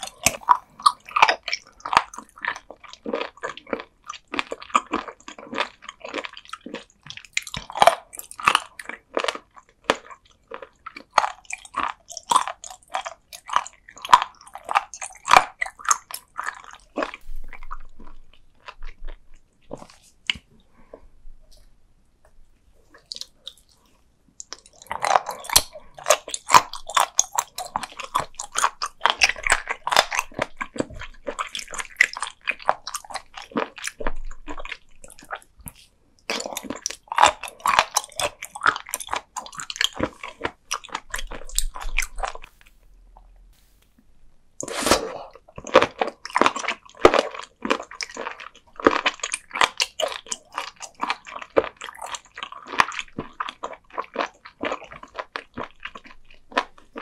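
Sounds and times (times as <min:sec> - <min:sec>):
crunchy wet chewing: 0:00.0 - 0:20.6, 0:22.8 - 0:43.9, 0:44.6 - 0:57.0.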